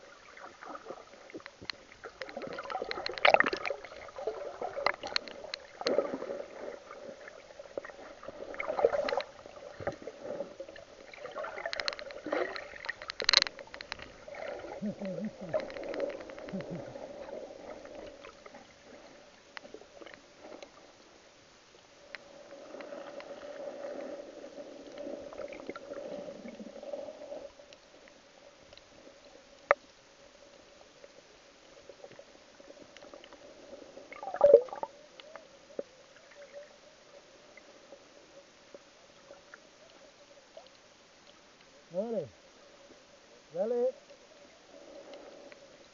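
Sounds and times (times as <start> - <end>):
faint steady hum: 0.0 - 45.9
water swishing and gurgling underwater: 0.0 - 45.9.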